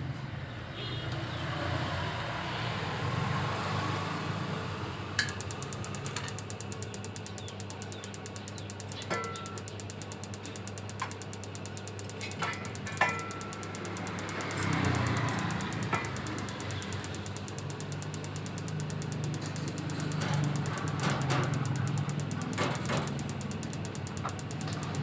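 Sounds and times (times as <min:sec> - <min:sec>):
dryer motor hum: 0:04.4 - 0:25.0
fast even ticking: 0:05.0 - 0:25.0.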